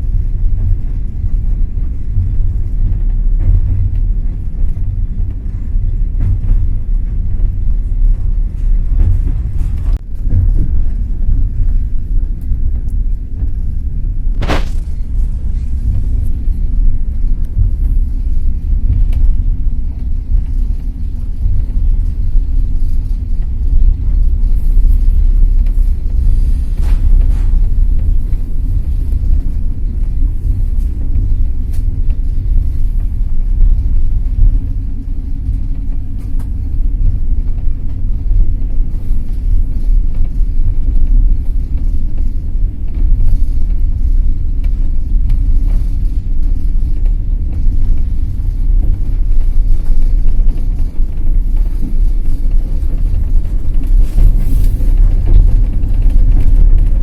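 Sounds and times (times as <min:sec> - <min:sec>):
train rumbling: 0:00.0 - 0:57.0
wheels clicking on track: 0:00.0 - 0:57.0.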